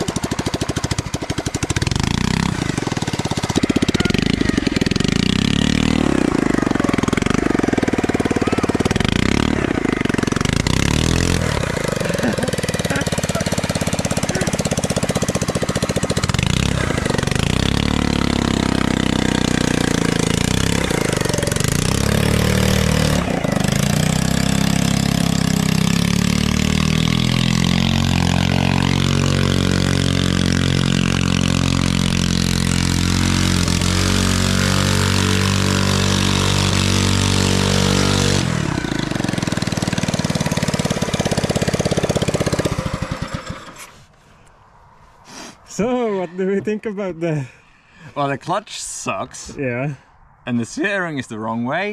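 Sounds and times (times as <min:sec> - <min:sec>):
small petrol engine running: 0:00.0 - 0:44.2.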